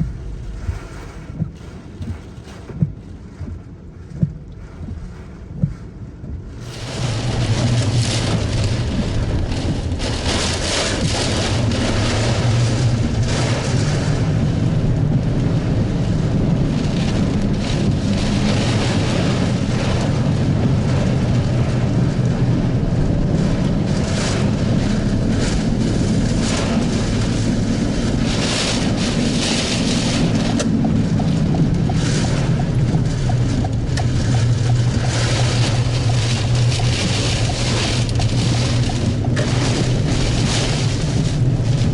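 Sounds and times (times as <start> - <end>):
constant low rumble: 0.0 - 41.9
wind-driven rain hissing: 6.5 - 41.9.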